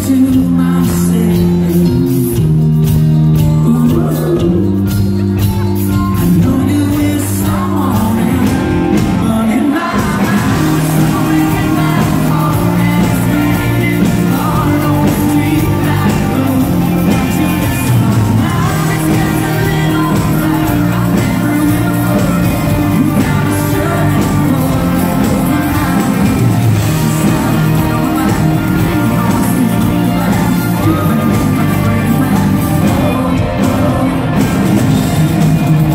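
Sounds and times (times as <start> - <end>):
live country-rock band: 0.0 - 35.9
male lead vocal singing: 0.0 - 35.9.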